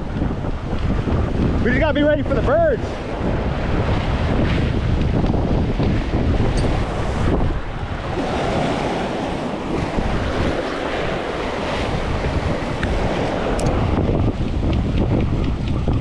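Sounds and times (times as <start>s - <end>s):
waves breaking over rocks: 0.0s - 16.0s
wind buffeting microphone: 0.0s - 16.0s.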